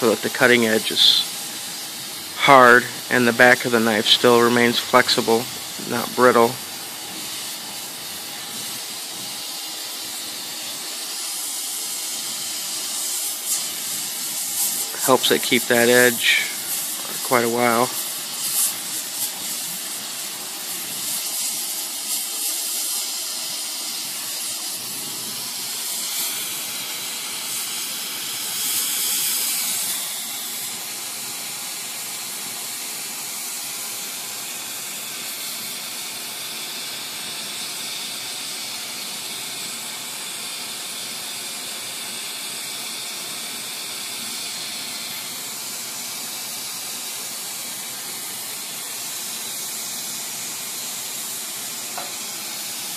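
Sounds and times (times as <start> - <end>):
gas torch hissing: 0.0 - 52.9.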